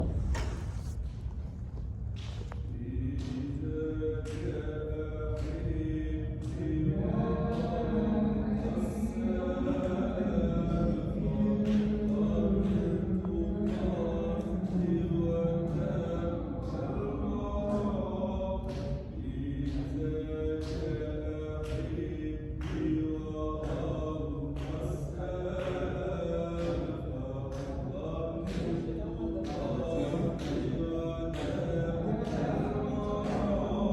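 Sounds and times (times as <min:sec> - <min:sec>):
group chanting in unison: 0:02.7 - 0:33.9.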